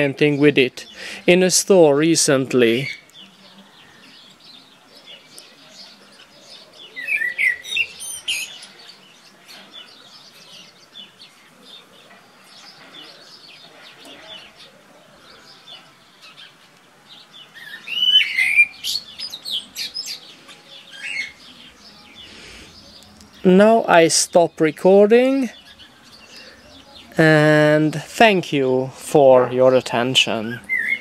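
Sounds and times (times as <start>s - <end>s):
faint outdoor background: 0.0s - 31.0s
songbirds chirping and singing: 0.0s - 31.0s.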